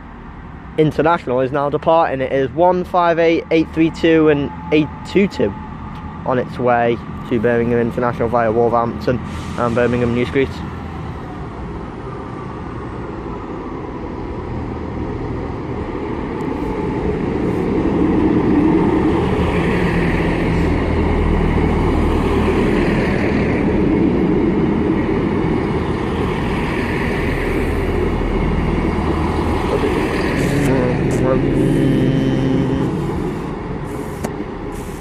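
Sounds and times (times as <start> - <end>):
train diesel engines running: 0.0 - 35.0.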